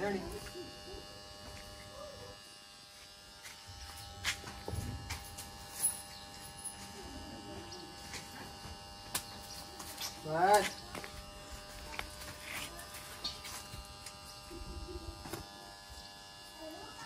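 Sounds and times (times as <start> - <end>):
steady electrical buzz: 0.0 - 17.0.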